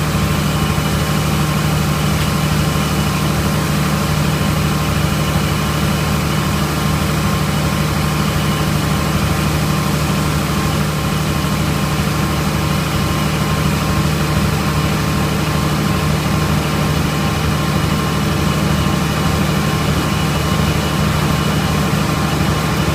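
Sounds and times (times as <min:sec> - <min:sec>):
tractor diesel engine and machinery: 0:00.0 - 0:22.9.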